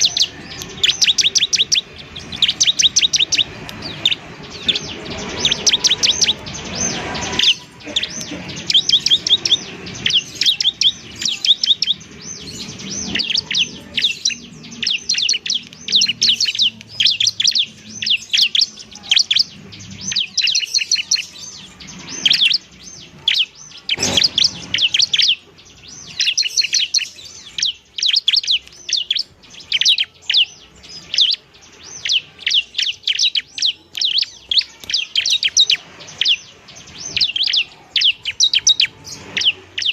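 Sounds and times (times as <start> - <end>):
bird singing high trills: 0.0 - 39.9.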